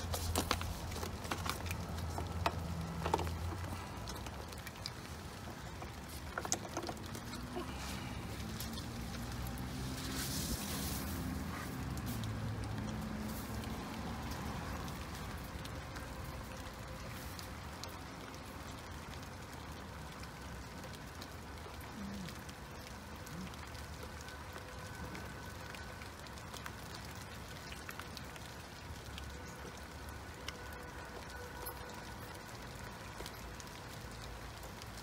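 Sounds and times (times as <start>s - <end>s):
raindrops ticking close by: 0.0s - 35.0s
steady rain falling: 0.0s - 35.0s.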